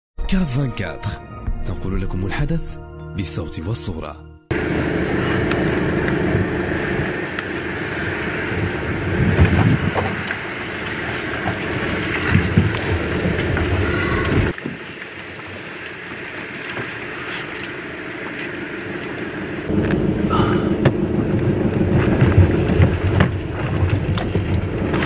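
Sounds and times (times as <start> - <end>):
engine and tyres rumbling on wet ground: 4.5 - 25.0.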